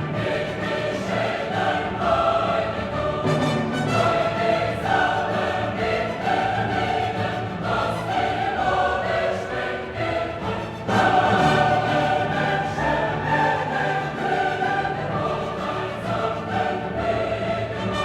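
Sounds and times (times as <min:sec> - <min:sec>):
choir singing held notes: 0:00.0 - 0:18.0
orchestra: 0:00.0 - 0:18.0.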